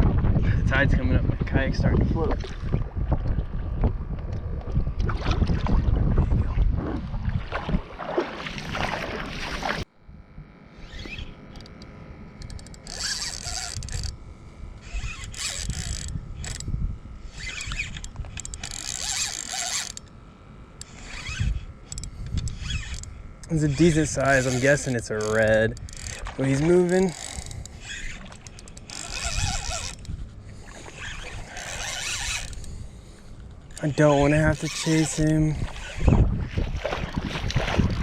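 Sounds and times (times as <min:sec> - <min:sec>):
wind buffeting microphone: 0:00.0 - 0:09.4, 0:13.9 - 0:18.7, 0:21.0 - 0:28.3, 0:29.0 - 0:38.0
faint steady hum: 0:00.0 - 0:38.0.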